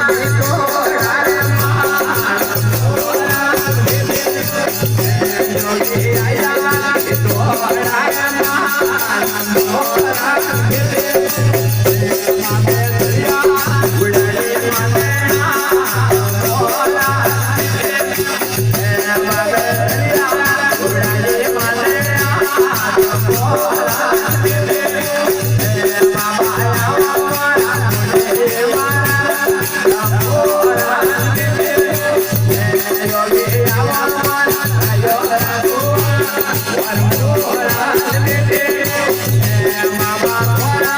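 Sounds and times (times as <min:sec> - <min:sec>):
rattling hand percussion: 0:00.0 - 0:40.9.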